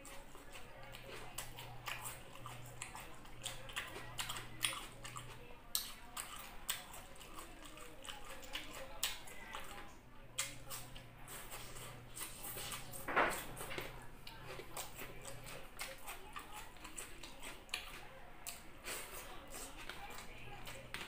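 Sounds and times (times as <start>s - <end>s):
chewing crunchy raw onion: 0.0s - 21.0s
faint low hum: 0.0s - 21.0s.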